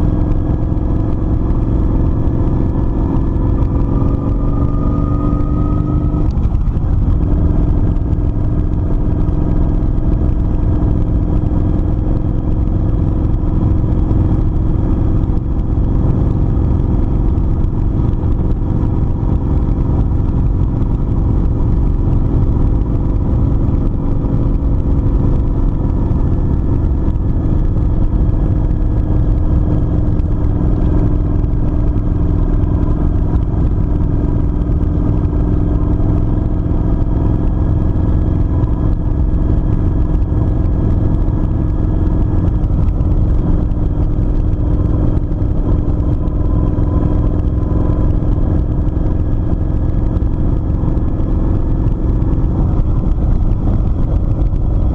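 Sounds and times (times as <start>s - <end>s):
motorcycle engine cruising: 0.0s - 54.9s.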